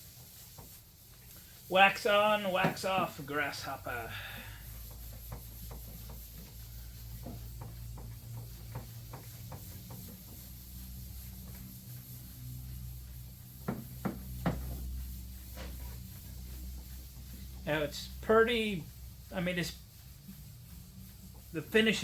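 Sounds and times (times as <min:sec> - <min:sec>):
sponge rubbing painted metal: 0:00.0 - 0:22.0.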